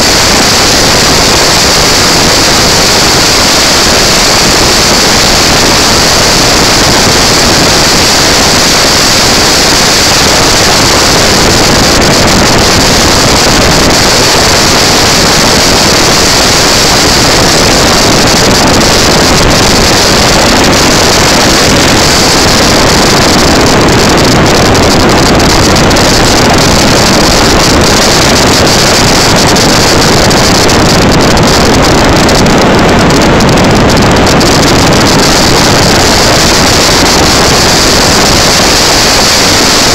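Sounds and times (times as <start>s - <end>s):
go-kart engine running: 0.0s - 39.9s
wind rush on microphone: 0.0s - 39.9s.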